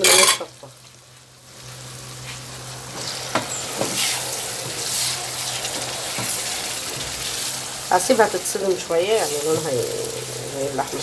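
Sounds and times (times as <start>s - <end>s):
liver sizzling in a pan: 0.0s - 11.0s.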